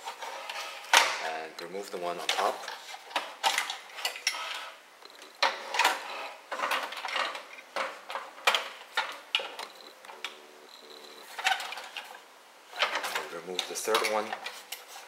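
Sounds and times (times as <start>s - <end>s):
hands handling plastic electronics: 0.0s - 15.0s.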